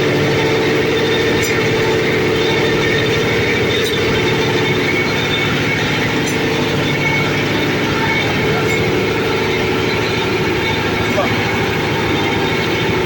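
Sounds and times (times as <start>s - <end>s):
machine running with fast pulse: 0.0s - 13.0s.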